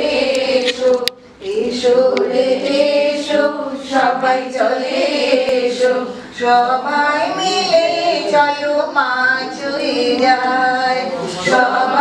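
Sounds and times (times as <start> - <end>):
group of voices singing unaccompanied: 0.0 - 12.0.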